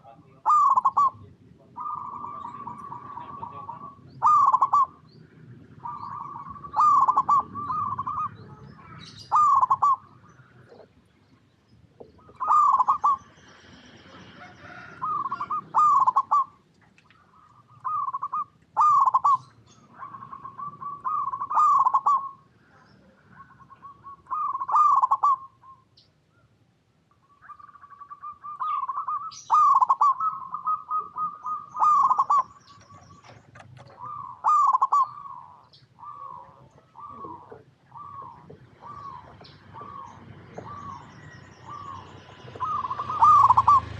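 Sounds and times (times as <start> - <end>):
soft bird trilling: 0.0 - 10.9, 12.0 - 26.0, 27.1 - 43.9
dove cooing: 0.0 - 11.0, 12.0 - 16.6, 17.2 - 25.8, 27.4 - 43.9.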